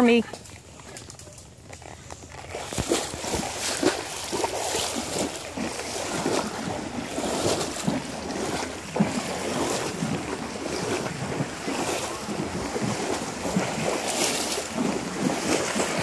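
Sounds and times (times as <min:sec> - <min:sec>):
horse splashing through water: 0:00.0 - 0:16.0.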